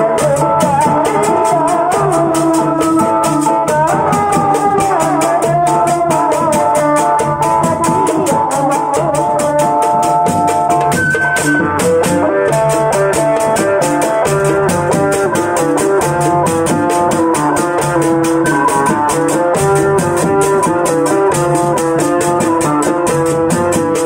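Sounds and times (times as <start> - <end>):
amplified guitar melody: 0.0 - 24.0
hand drums: 0.0 - 24.0
rattling percussion beat: 0.0 - 24.0.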